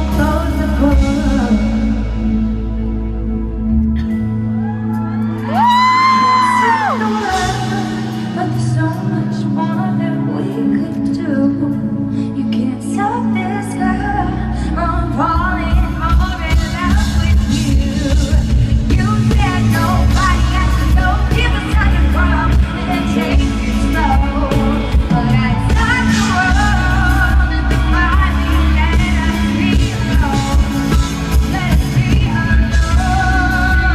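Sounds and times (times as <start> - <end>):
live pop song over sound system: 0.0 - 33.9.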